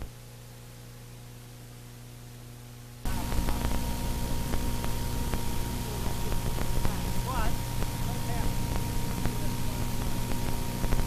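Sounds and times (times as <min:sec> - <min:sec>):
faint steady tape hum: 0:00.0 - 0:11.0
steady hiss with high whine: 0:00.0 - 0:11.0.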